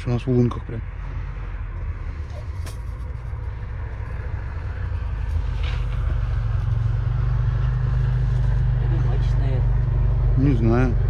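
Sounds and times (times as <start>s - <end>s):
snowmobile engine droning: 1.0s - 11.0s.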